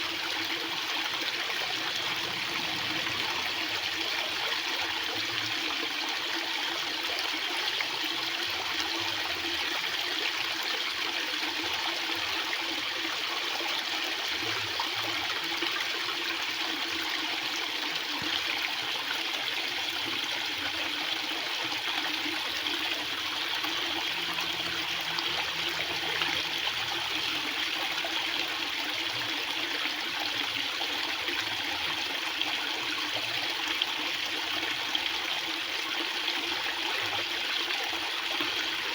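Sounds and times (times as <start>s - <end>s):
water flowing fast: 0.0s - 38.9s.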